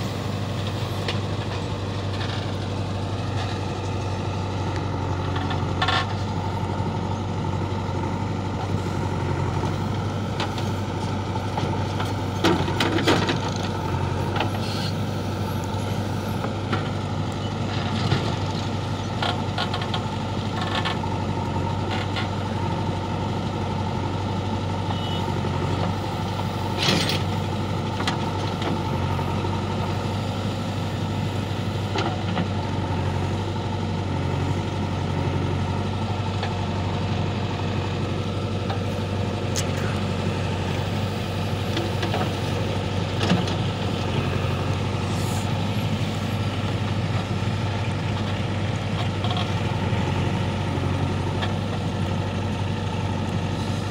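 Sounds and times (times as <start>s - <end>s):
backhoe digging soil: 0.0s - 23.6s, 24.6s - 53.9s
diesel engines running: 0.0s - 53.9s.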